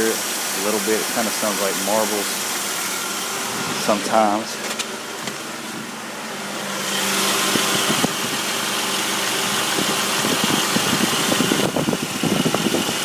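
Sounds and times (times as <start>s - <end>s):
car engine idling: 0.0s - 13.0s
cooling fan running: 0.0s - 13.0s.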